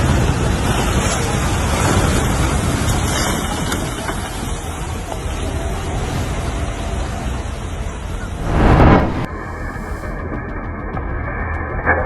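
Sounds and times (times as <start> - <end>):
landslide rushing and rumbling: 0.0 - 10.2.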